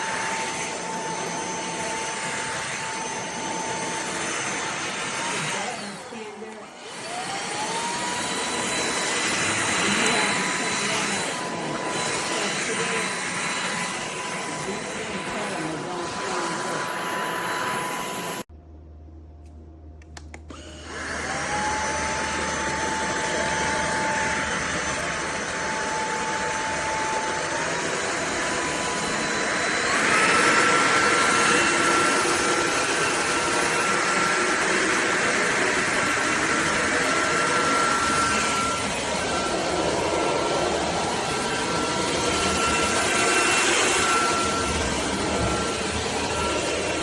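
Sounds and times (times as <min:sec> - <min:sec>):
vacuum motor whine: 0:00.0 - 0:18.5, 0:20.4 - 0:47.0.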